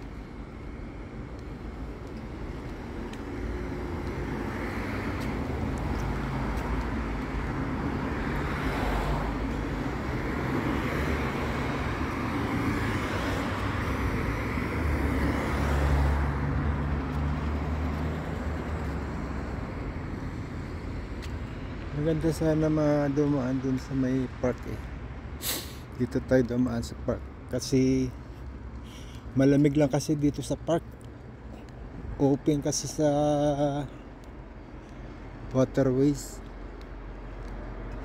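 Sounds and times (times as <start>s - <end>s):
cars driving past: 0.0s - 38.0s
vehicle engine hum: 0.0s - 38.0s.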